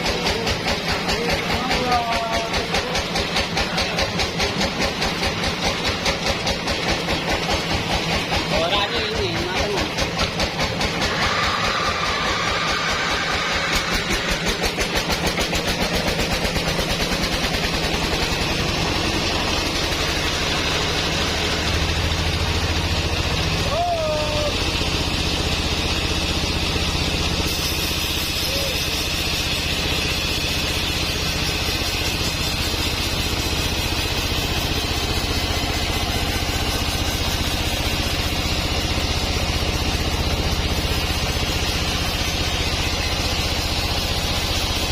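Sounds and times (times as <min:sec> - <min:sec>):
engine chugging: 0:00.0 - 0:44.9.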